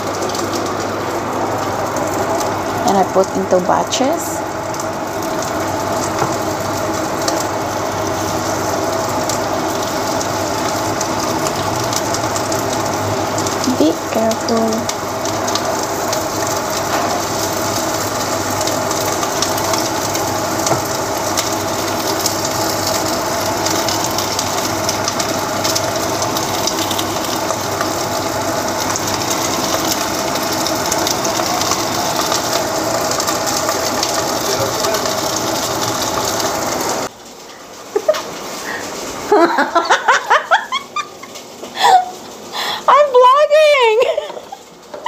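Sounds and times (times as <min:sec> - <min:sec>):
meat sizzling in hot oil: 0:00.0 - 0:45.0.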